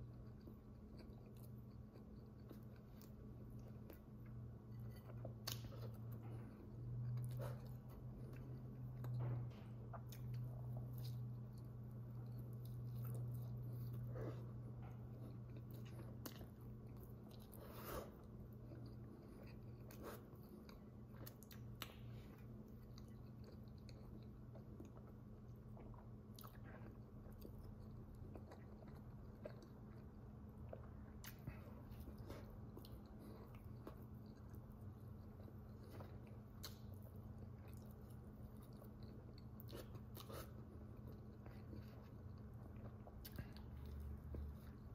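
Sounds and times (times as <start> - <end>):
person chewing burgers: 0.0 - 44.9
steady low hum: 0.0 - 44.9.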